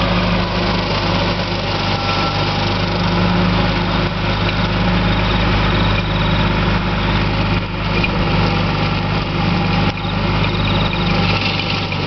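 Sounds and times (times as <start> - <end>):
rotary mower cutting grass: 0.0 - 12.0
tractor diesel engine running: 0.0 - 12.0.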